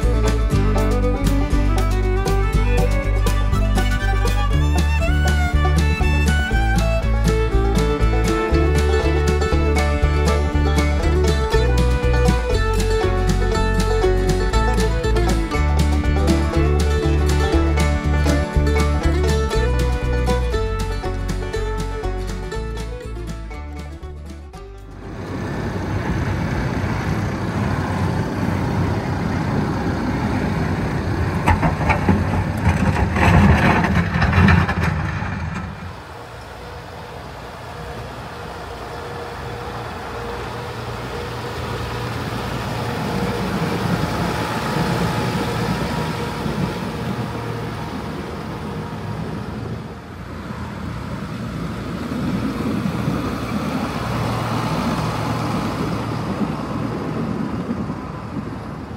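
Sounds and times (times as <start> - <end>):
motor vehicle engine: 0.0 - 58.9
road noise: 0.0 - 58.9.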